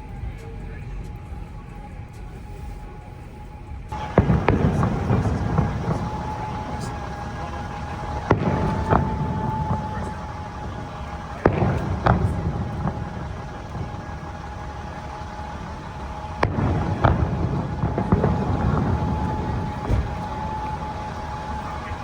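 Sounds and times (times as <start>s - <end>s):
low rumbling: 0.0s - 22.0s
fireworks bangs: 3.9s - 22.0s.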